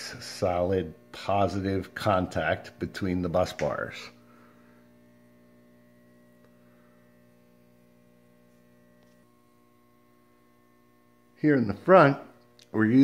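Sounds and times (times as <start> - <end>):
faint electrical mains hum: 0.0 - 13.0.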